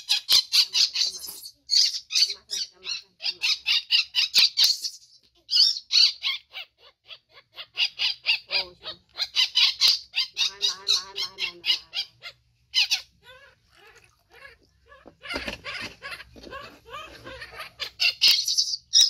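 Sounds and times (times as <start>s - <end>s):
baby monkey squealing: 0.0s - 19.0s.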